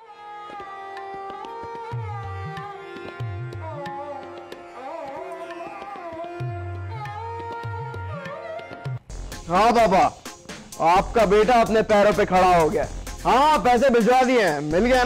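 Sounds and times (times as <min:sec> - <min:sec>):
sliding instrumental melody: 0:00.4 - 0:15.0
tabla drumming: 0:00.5 - 0:15.0.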